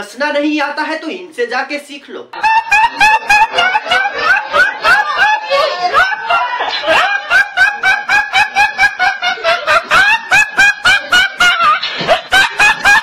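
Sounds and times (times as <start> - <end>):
boy laughing: 2.4 - 13.0.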